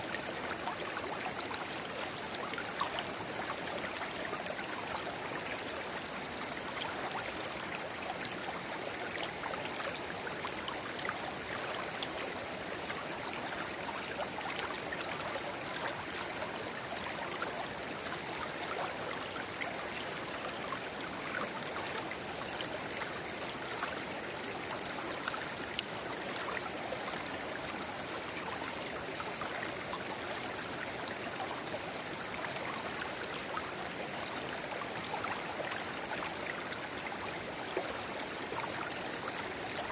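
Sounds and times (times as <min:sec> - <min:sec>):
river babbling: 0:00.0 - 0:39.9.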